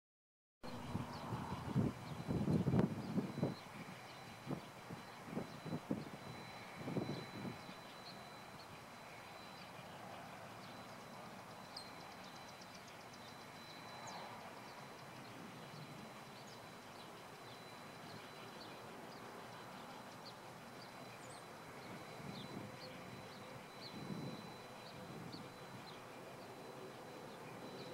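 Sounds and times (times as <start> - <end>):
faint high-pitched tone: 0.6 - 27.9.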